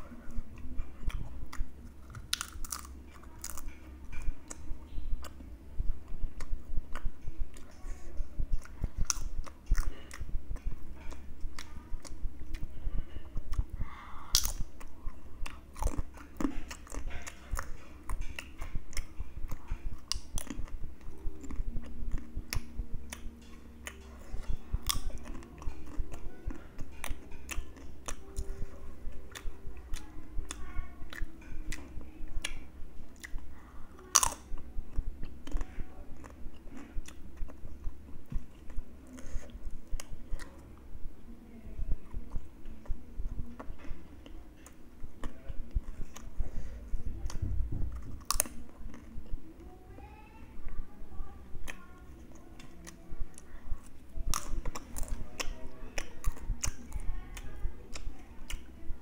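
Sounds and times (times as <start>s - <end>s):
crunching and chewing crackers: 0.5s - 5.4s, 6.4s - 40.8s, 42.0s - 49.3s, 51.6s - 59.0s.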